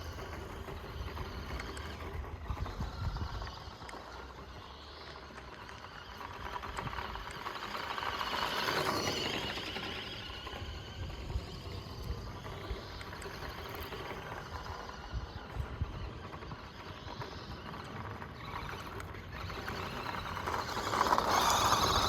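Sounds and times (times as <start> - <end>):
rc car electric motor: 0.0 - 22.0
tyres on dirt: 0.0 - 22.0.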